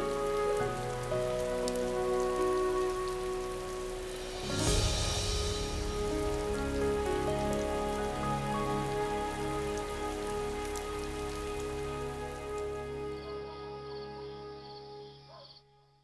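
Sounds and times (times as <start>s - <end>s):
steady rain falling: 0.0s - 15.0s
soft music of held notes: 0.0s - 16.0s.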